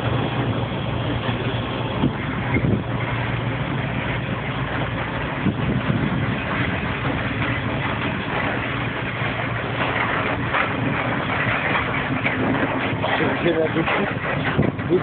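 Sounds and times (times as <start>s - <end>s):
freight wagons knocking and rattling: 0.0s - 15.0s
train wheels rumbling on rails: 0.0s - 15.0s.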